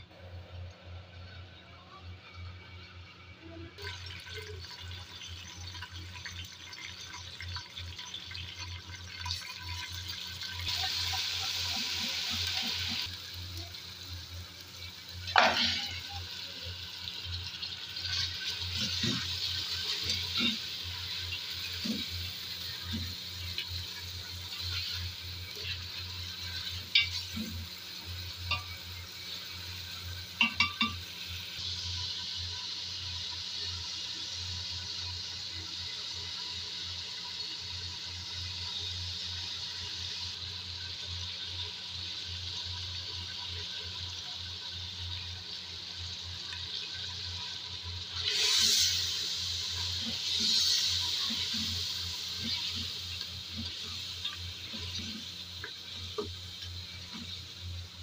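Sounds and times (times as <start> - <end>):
meat sizzling in hot oil: 3.8 - 58.0.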